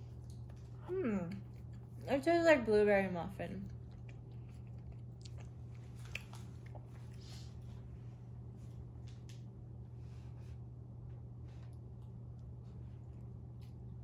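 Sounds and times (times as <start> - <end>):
quiet chewing: 0.0 - 2.7, 3.5 - 9.5, 10.2 - 14.0
steady low hum: 0.0 - 14.0.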